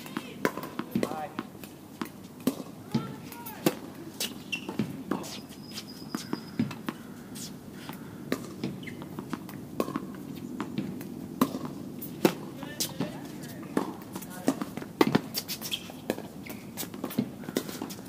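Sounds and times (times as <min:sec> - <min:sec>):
tennis balls struck and bouncing: 0:00.0 - 0:18.0.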